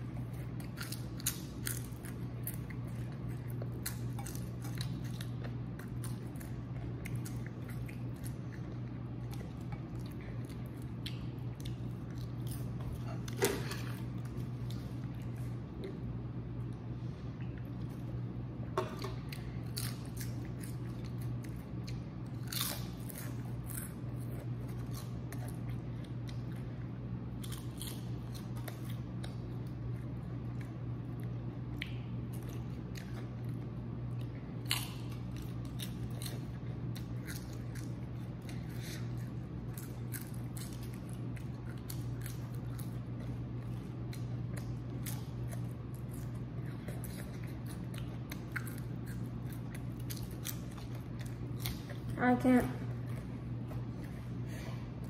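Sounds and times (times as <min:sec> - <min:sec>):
steady low hum: 0:00.0 - 0:55.0
potato chips crunching: 0:00.1 - 0:15.6, 0:19.0 - 0:26.6, 0:27.3 - 0:52.2.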